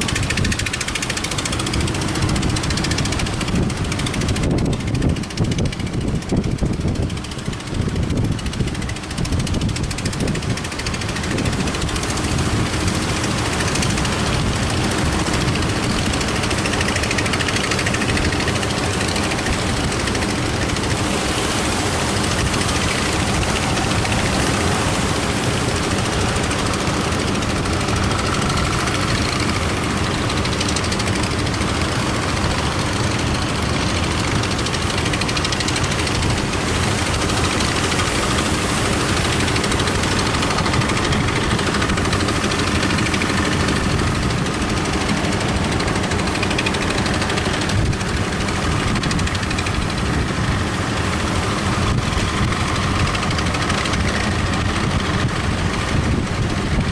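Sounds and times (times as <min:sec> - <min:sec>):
boat engine knocking: 0:00.0 - 0:56.9
surf: 0:00.0 - 0:56.9
wind: 0:00.0 - 0:56.9.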